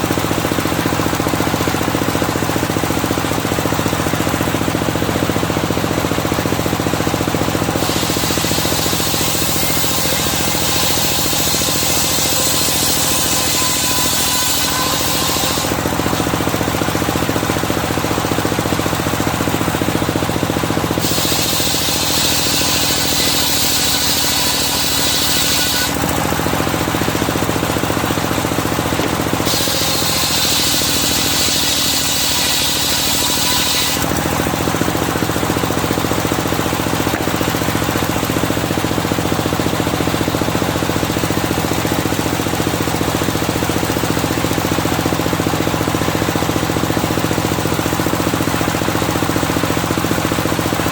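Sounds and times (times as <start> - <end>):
saw blade cutting log: 0.0 - 50.9
sawmill engine running: 0.0 - 50.9.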